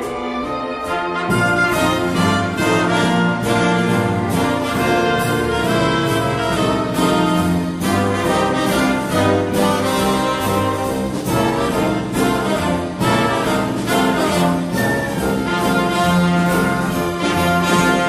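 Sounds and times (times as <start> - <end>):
orchestral music with brass: 0.0 - 18.0.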